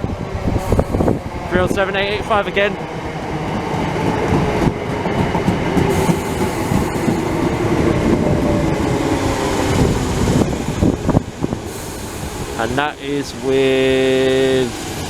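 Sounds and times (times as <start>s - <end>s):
electric train running: 0.1s - 15.0s.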